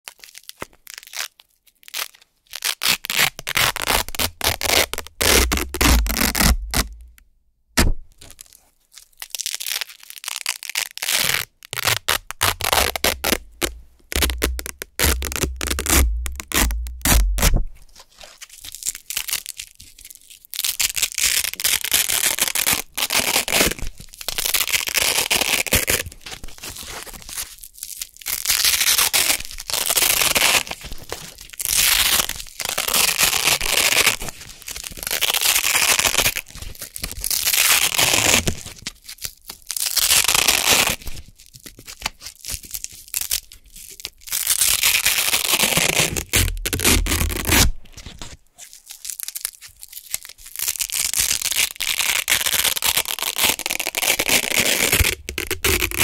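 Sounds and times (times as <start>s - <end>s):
velcro ripping apart: 0.0s - 7.2s, 7.8s - 56.0s.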